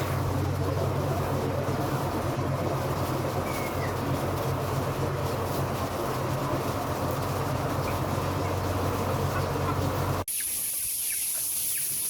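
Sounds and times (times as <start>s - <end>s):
low machine drone: 0.0s - 10.3s.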